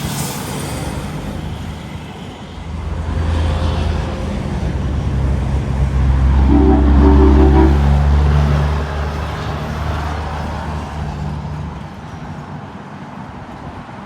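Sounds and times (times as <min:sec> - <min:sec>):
heavy truck engine hum: 0:00.0 - 0:12.6
highway traffic passing: 0:00.0 - 0:13.2.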